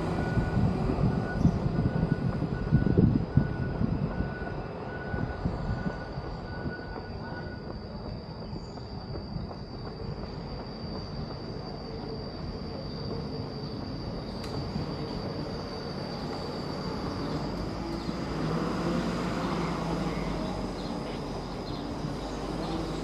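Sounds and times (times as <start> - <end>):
city ambience rumble and hiss: 0.0 - 23.0.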